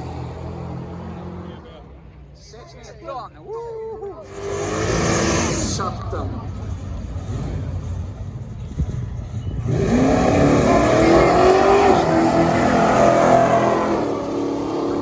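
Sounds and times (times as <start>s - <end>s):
drag car engine accelerating: 0.0s - 2.2s, 4.2s - 15.0s.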